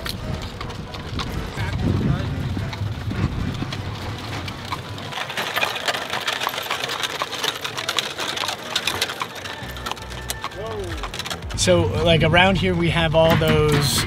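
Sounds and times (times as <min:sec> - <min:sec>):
buggy wheels rattling: 0:00.0 - 0:14.0
horse hooves clip-clopping: 0:00.0 - 0:14.0.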